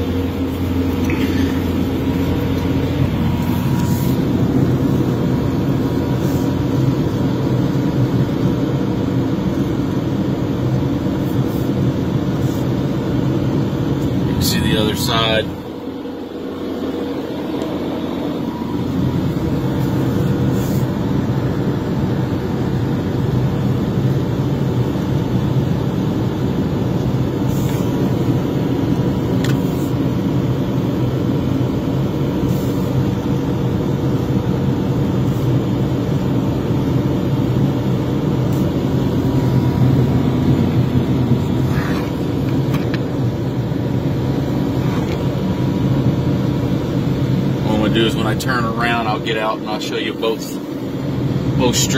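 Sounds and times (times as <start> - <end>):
street sweeper engine drone: 0.0 - 51.9.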